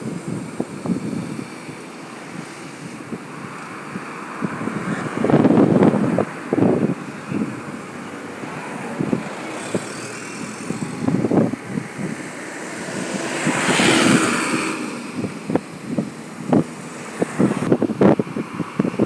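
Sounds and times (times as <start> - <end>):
wind buffeting microphone: 0.0 - 19.0
vehicle passing by: 0.8 - 19.0.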